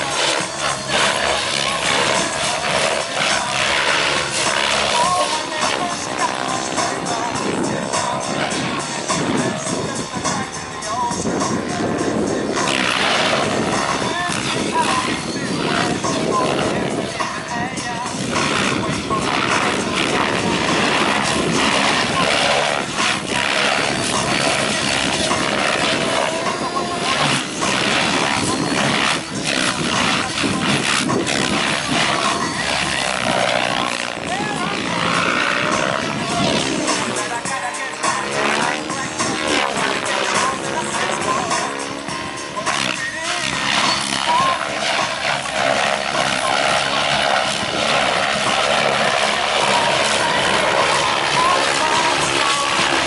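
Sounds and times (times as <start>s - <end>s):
helicopter rotor blades whooshing: 0.0s - 53.0s
helicopter whine: 0.0s - 53.0s.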